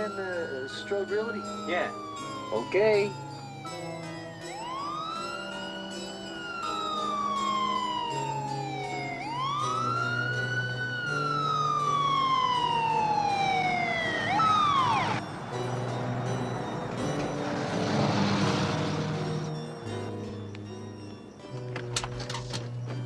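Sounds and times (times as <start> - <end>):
ambulance siren wailing: 0.0 - 20.5.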